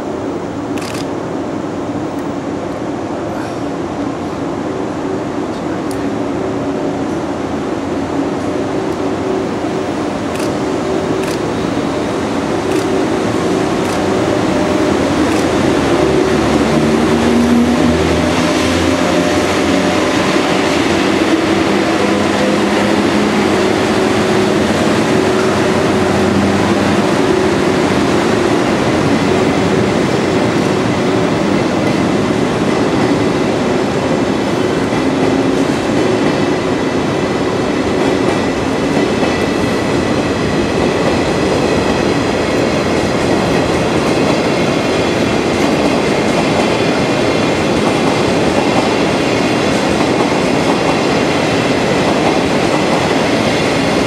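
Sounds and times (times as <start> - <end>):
electric locomotive humming: 0.0 - 54.0
wheels on rail noise: 0.0 - 54.0.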